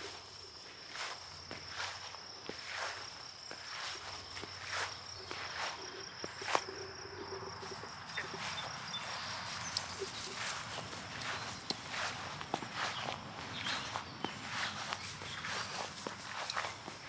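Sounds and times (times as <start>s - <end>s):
footsteps and rustling on ground: 0.0s - 17.0s
high-pitched insect drone: 0.1s - 17.0s.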